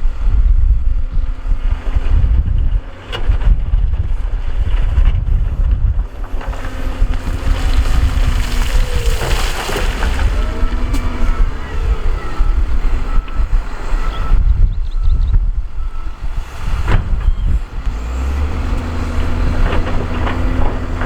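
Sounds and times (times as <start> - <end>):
diesel engine rumbling under load: 0.0 - 21.0
wind buffeting microphone: 0.0 - 21.0.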